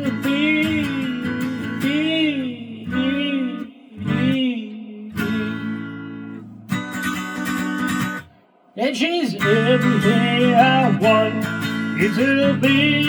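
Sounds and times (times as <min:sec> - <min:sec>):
man singing: 0:00.0 - 0:06.4, 0:08.7 - 0:13.0
acoustic guitar strumming: 0:00.0 - 0:13.0.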